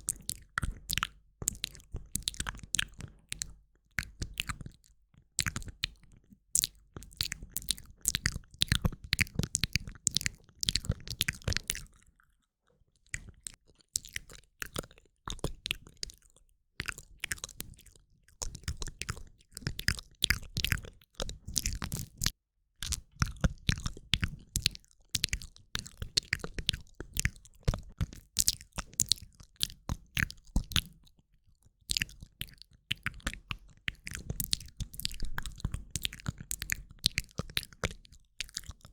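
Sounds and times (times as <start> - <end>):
wet mouth clicks and smacks: 0.0 - 12.4, 13.0 - 38.9.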